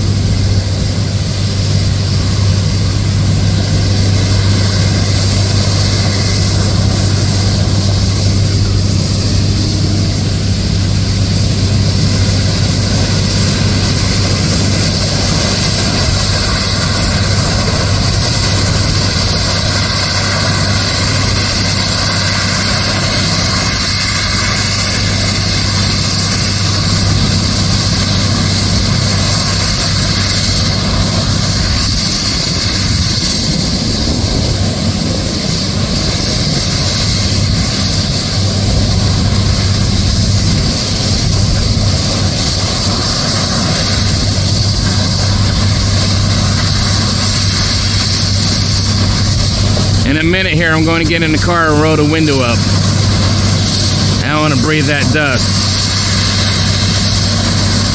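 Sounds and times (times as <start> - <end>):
machine engine drone: 0.0 - 57.9.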